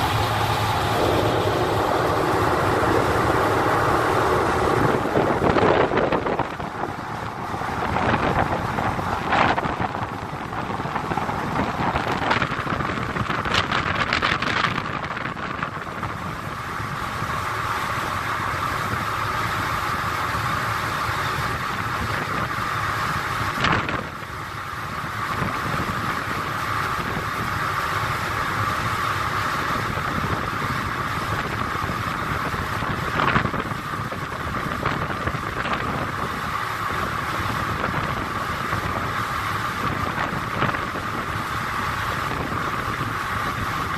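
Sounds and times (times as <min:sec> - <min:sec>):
motor boat running: 0:00.0 - 0:43.9
wind buffeting microphone: 0:00.0 - 0:43.9.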